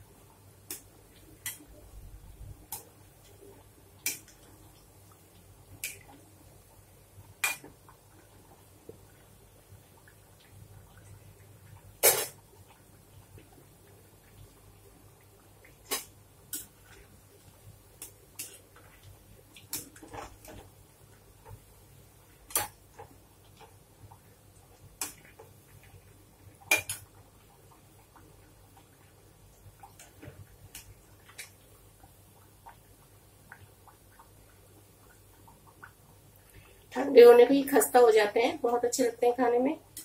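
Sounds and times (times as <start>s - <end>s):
frying oil crackling: 0.1s - 40.0s.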